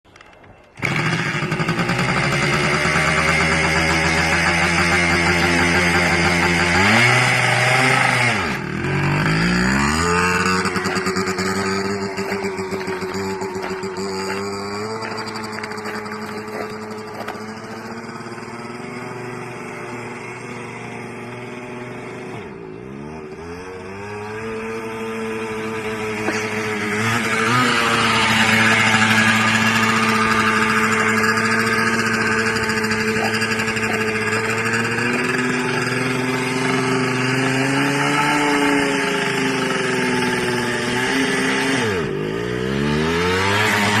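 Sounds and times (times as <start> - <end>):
two-stroke motorcycle engine: 0.2 - 44.0.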